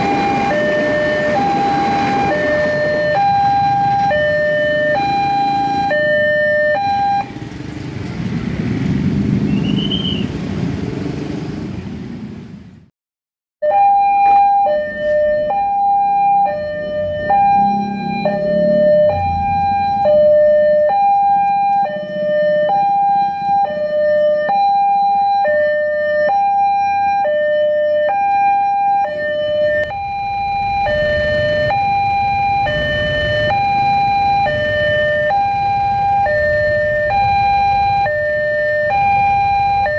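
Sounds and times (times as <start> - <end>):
two-tone crossing alarm: 0.0 - 7.7, 13.6 - 39.9.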